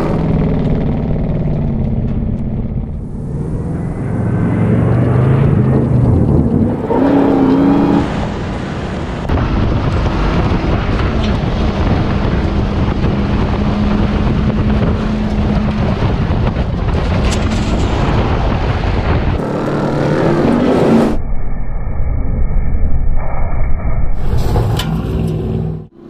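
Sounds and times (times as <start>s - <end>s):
truck engine revving: 0.0s - 21.2s.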